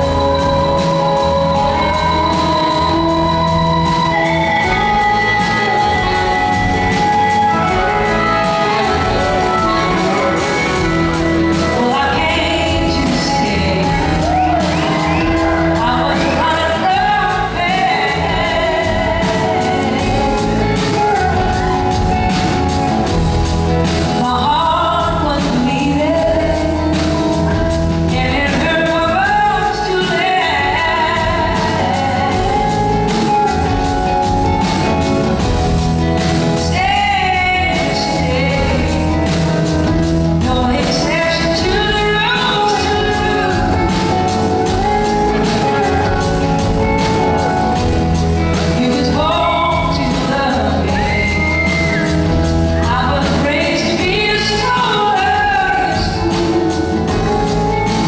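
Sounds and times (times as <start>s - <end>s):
live band playing soul-blues: 0.0s - 58.0s
person singing: 0.0s - 58.0s.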